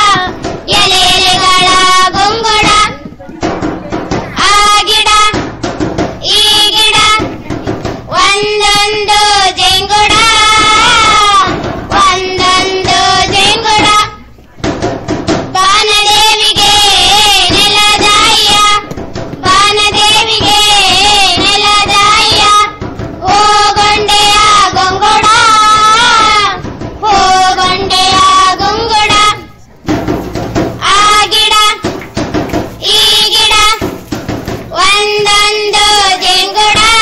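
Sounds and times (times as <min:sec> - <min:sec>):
children singing: 0:00.0 - 0:03.1, 0:04.2 - 0:05.5, 0:06.2 - 0:07.4, 0:08.1 - 0:14.3, 0:15.5 - 0:29.6, 0:30.6 - 0:32.0, 0:32.7 - 0:37.0.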